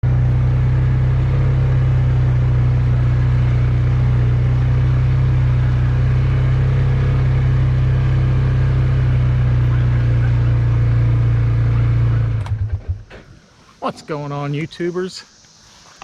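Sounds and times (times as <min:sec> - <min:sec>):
engine running: 0:00.0 - 0:13.4.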